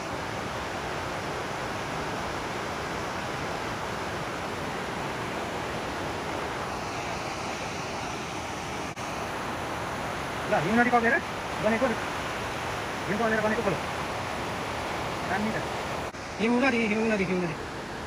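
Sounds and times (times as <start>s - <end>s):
creek rushing: 0.0s - 18.0s.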